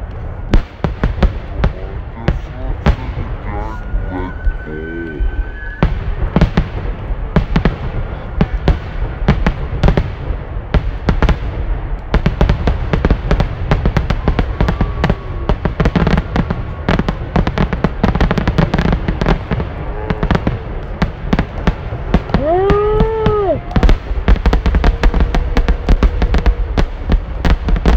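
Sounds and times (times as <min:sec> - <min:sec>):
fireworks bursting bangs: 0:00.0 - 0:27.9.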